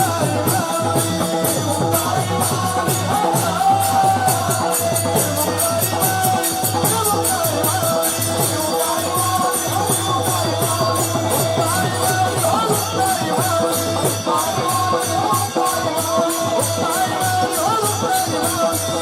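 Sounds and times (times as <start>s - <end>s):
devotional music with drumming: 0.0s - 19.0s
jingling percussion: 0.0s - 19.0s.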